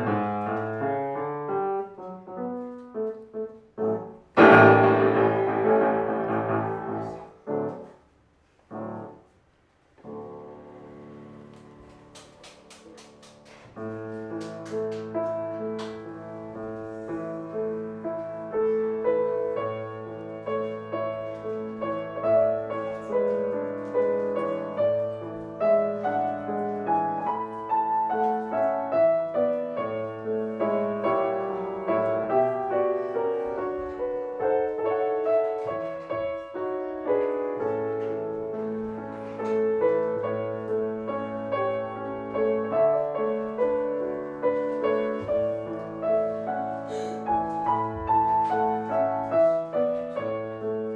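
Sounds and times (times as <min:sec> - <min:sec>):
piano music: 0:00.0 - 0:08.1, 0:10.0 - 0:12.2, 0:13.7 - 0:50.9.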